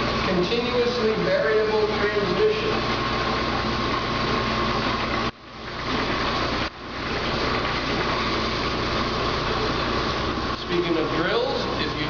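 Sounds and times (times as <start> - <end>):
belt-driven shafting whirring: 0.0 - 12.0.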